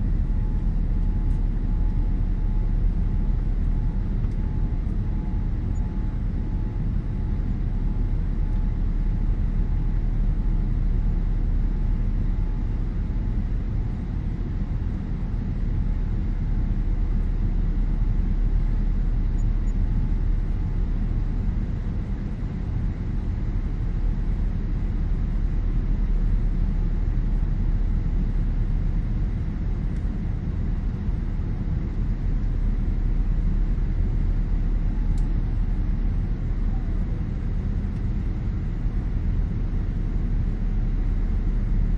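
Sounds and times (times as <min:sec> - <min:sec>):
airliner cabin engine rumble: 0:00.0 - 0:41.9
faint whine: 0:00.0 - 0:41.9.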